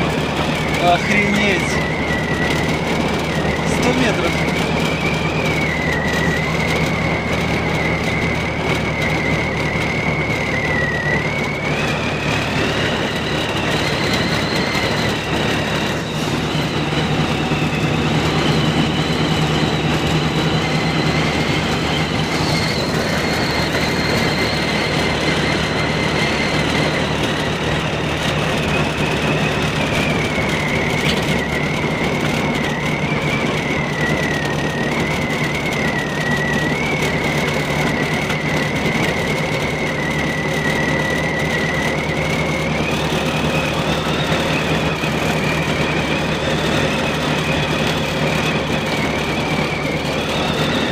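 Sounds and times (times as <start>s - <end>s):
car engine and road noise: 0.0s - 50.9s
high whine: 0.0s - 50.9s.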